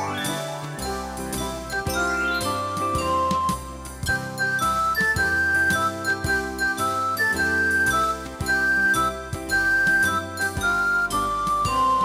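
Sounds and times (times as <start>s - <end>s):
cheerful music with bell-like melody: 0.0s - 12.0s.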